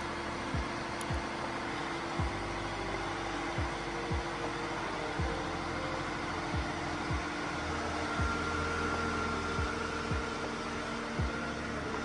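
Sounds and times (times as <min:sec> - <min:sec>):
engine-room machinery drone: 0:00.0 - 0:12.0.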